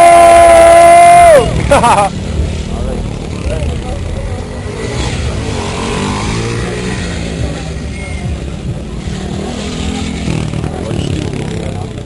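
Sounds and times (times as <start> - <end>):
motorcycle engines running: 0.0 - 12.0
voices: 0.0 - 12.0.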